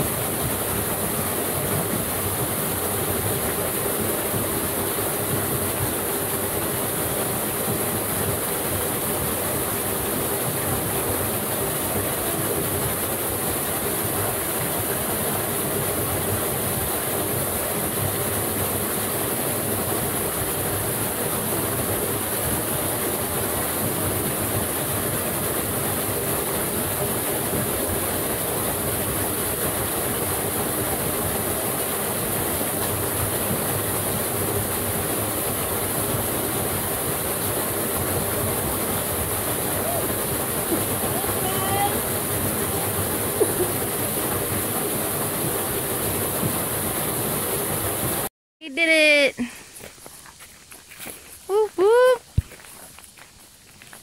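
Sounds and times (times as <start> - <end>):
waterfall rushing into pool: 0.0 - 49.6.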